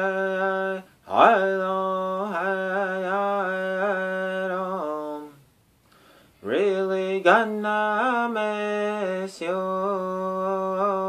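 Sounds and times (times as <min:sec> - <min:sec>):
man singing long held notes: 0:00.0 - 0:05.4, 0:06.4 - 0:11.0.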